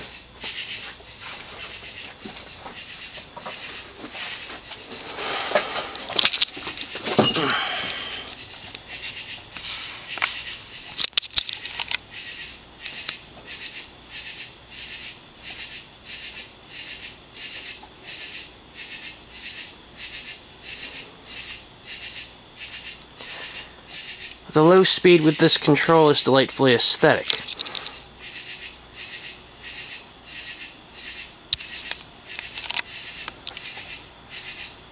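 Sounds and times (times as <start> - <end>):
ceiling fan rhythmic pulse: 0.0 - 34.9.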